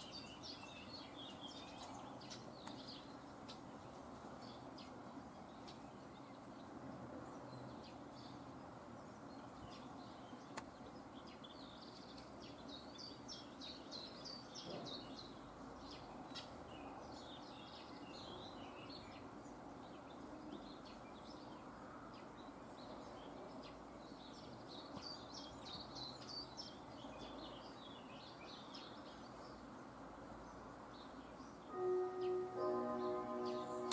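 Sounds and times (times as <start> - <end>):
faint background noise: 0.0 - 33.9
small birds chirping: 0.0 - 33.9.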